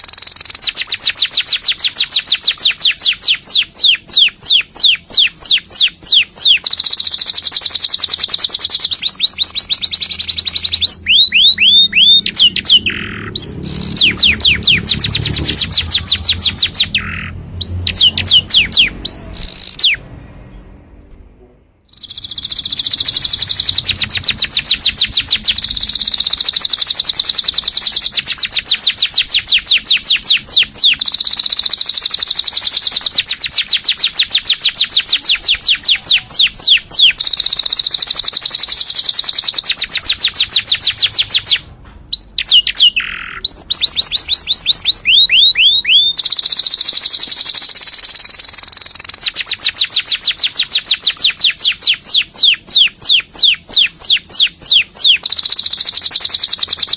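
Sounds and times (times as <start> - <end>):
canary singing trills: 0.0 - 20.8, 21.9 - 56.9.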